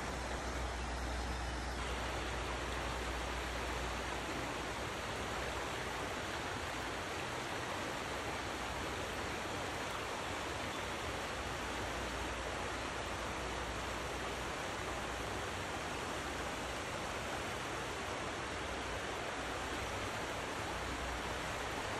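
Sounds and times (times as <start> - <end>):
river rushing over rocks: 0.0 - 21.9.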